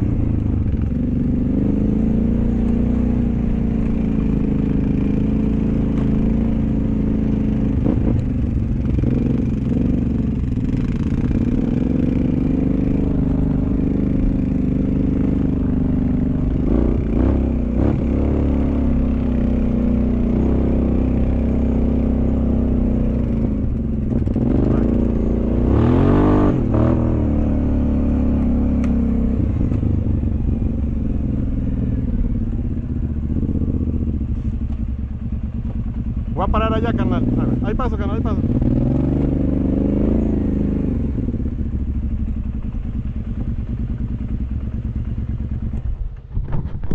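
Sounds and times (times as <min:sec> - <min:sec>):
off-road vehicle engine revving: 0:00.0 - 0:34.5, 0:36.4 - 0:41.8
vehicle rattling over rough ground: 0:00.0 - 0:46.9.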